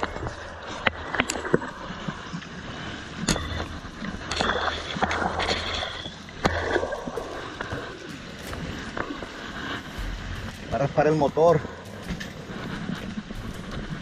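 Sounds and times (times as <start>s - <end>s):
low rumble: 0.0s - 14.0s
water rushing and sloshing: 0.0s - 14.0s.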